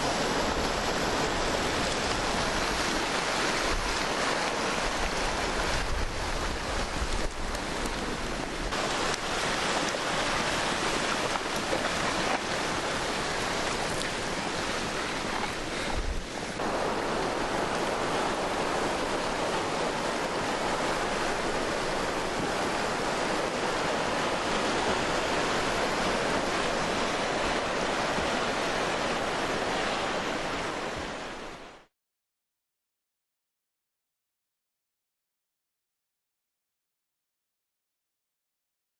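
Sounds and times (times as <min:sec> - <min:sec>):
floodwater rushing: 0:00.0 - 0:31.9.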